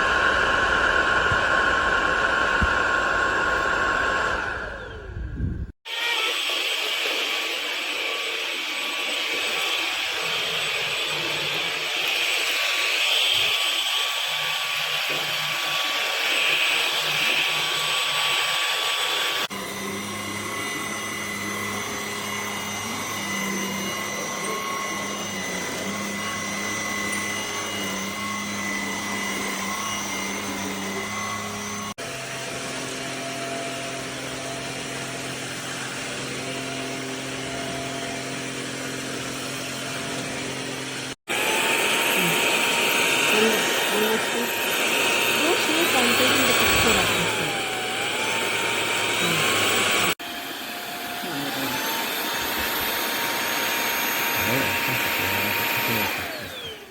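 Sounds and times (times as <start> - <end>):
stick vacuum motor whine: 0.0 - 56.9.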